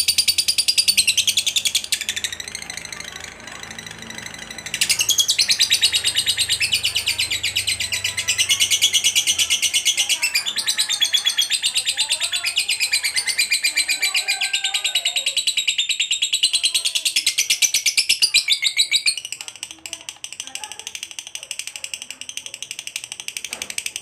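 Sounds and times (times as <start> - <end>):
lovebird chattering: 0.0 - 24.0.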